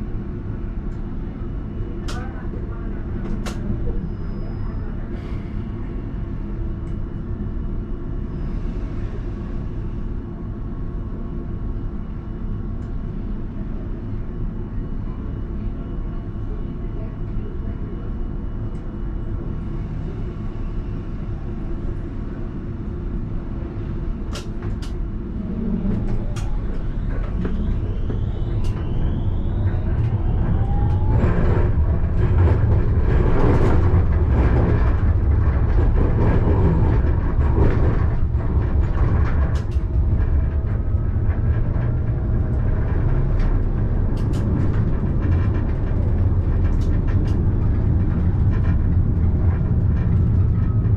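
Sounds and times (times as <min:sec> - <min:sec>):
tram rumbling on rails: 0:00.0 - 0:50.9.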